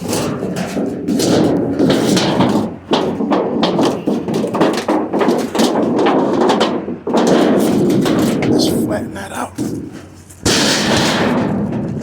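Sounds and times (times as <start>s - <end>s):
scrap metal clanking and crinkling: 0.0s - 12.0s.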